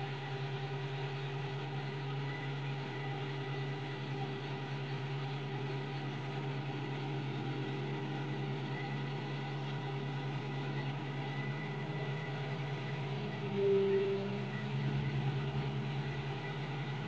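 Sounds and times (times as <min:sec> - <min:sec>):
concrete pump engine drone: 0:00.0 - 0:17.0.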